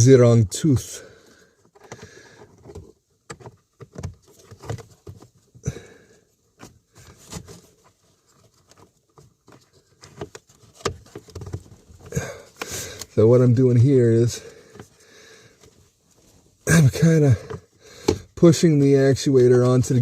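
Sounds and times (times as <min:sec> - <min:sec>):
rustling: 0:01.6 - 0:20.0.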